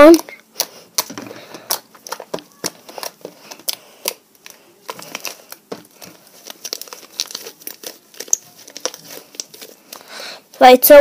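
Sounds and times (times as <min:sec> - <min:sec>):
slime being kneaded and stretched: 0:00.0 - 0:10.1
slime clicks and crackles: 0:00.2 - 0:10.0.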